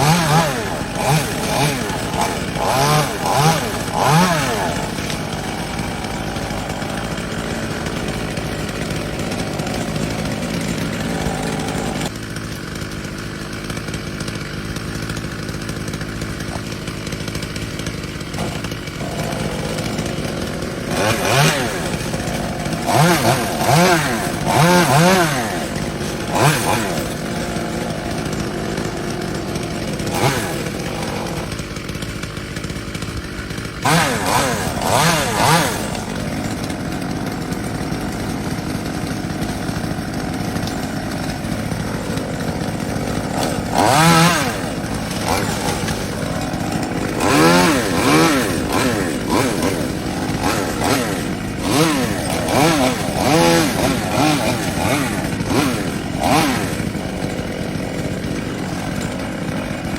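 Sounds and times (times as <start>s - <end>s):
chainsaw engine revving: 0.0s - 59.9s.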